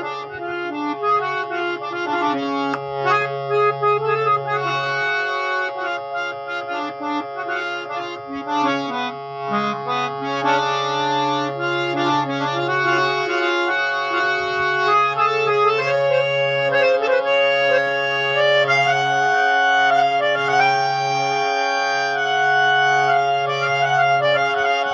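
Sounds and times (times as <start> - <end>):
harmonium drone note: 0.0 - 24.9
harmonium melody: 0.0 - 24.9.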